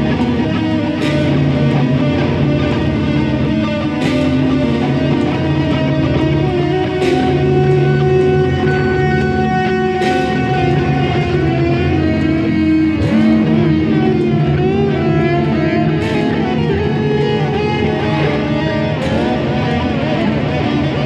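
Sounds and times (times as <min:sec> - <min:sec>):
layered drones: 0:00.0 - 0:21.0.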